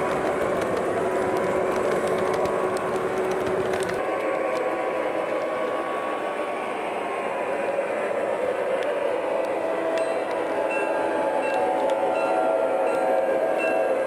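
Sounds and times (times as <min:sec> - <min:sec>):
model locomotive diesel drone: 0:00.0 - 0:14.0
model train rolling on track: 0:00.0 - 0:14.0.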